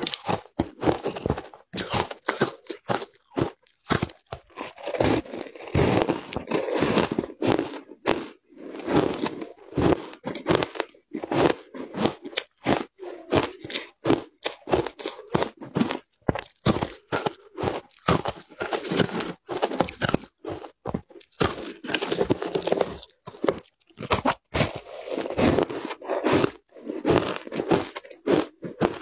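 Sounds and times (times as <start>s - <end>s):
crunching and chewing ice: 0.0s - 29.0s.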